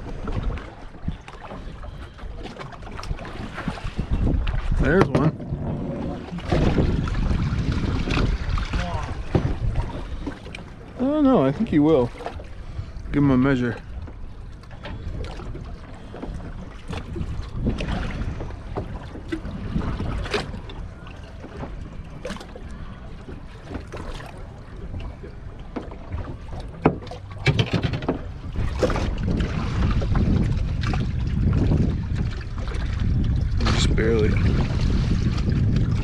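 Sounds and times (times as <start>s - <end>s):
wind buffeting microphone: 0.0s - 23.9s, 27.4s - 36.0s
water moving around boat: 0.0s - 36.0s.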